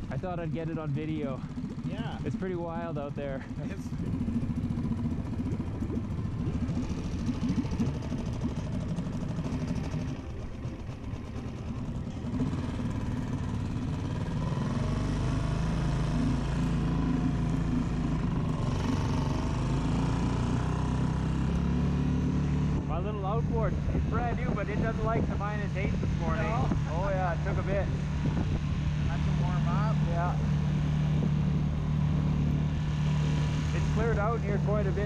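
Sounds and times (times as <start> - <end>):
outboard motor running: 0.0 - 35.0.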